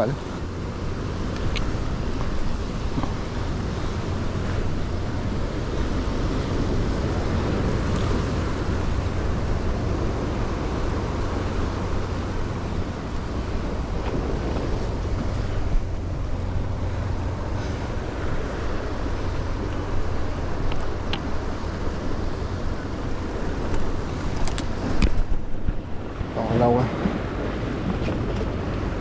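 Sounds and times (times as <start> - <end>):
sea surf washing against rocks: 0.0 - 29.0
wind buffeting microphone: 0.0 - 29.0.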